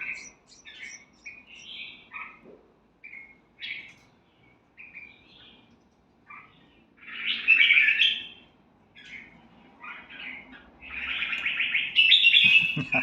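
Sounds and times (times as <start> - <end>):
bird singing: 0.0 - 2.4, 3.0 - 13.0.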